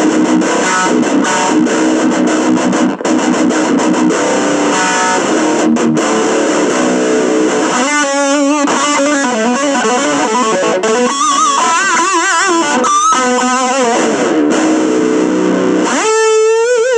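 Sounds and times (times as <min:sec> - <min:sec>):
electric guitar chords: 0:00.0 - 0:16.9
electric guitar lead with vibrato: 0:00.0 - 0:16.9.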